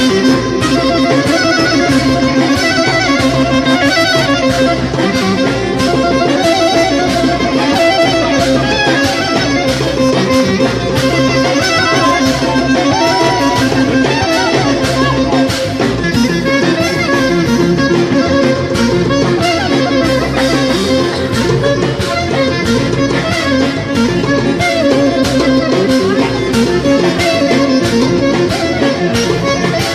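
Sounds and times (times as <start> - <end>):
clarinet melody: 0.0 - 29.9
hand percussion beat: 0.0 - 29.9
plucked bouzouki: 0.0 - 29.9.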